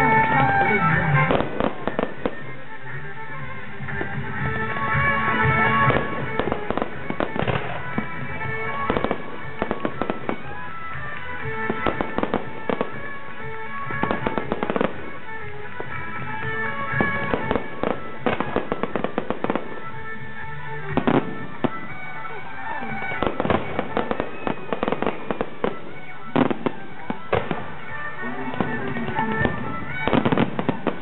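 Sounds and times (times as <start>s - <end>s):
fireworks bangs and crackles: 0.0s - 31.0s
music: 0.0s - 31.0s.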